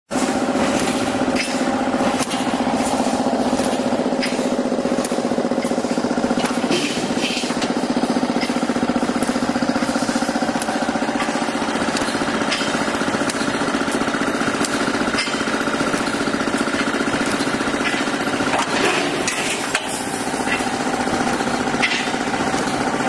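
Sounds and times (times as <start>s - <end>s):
metallic clicks and clanks: 0.1s - 23.0s
welding machine electric buzz: 0.1s - 23.0s.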